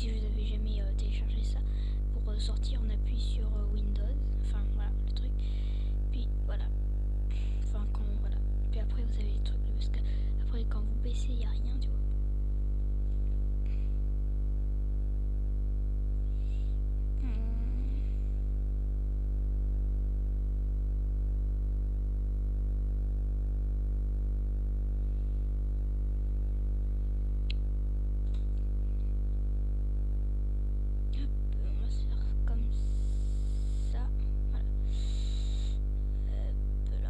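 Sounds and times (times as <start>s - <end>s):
mains hum: 0.0s - 37.0s.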